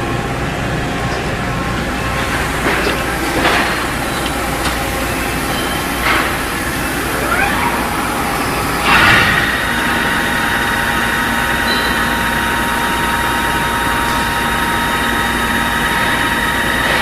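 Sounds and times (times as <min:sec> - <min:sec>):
rising machine whine: 0:00.0 - 0:17.0
welding machine running: 0:00.0 - 0:17.0.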